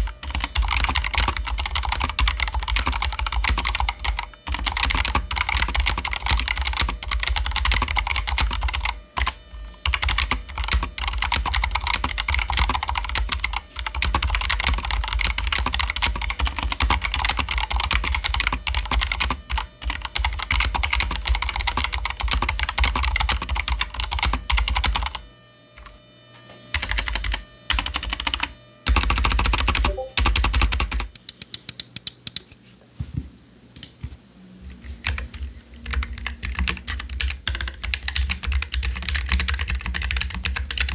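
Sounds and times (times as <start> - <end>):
typing on mechanical keyboard: 0.2 - 25.2, 26.8 - 31.8, 35.0 - 40.9.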